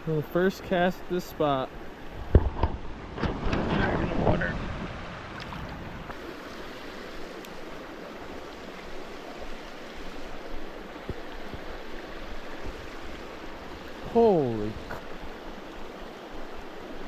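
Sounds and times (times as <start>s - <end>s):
brook flowing: 0.0s - 17.0s.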